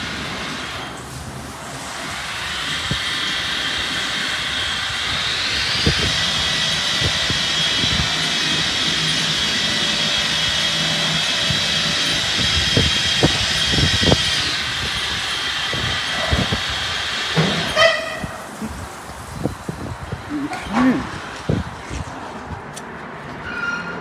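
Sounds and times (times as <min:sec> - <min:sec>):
car wash high whine: 0:00.0 - 0:24.0.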